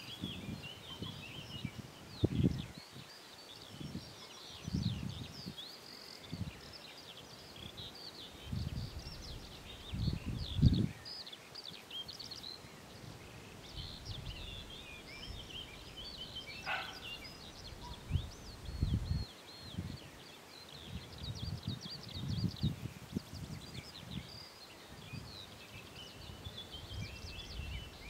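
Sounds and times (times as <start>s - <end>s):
wind buffeting microphone: 0.0s - 3.1s, 3.7s - 5.6s, 6.2s - 6.7s, 7.6s - 11.0s, 13.1s - 28.0s
songbirds chirping: 0.0s - 28.0s.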